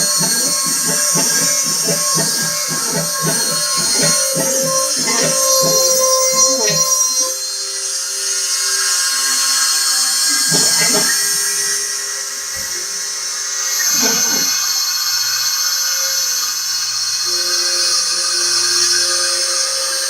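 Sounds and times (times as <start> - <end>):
milling spindle high-pitched whine: 0.0 - 20.0.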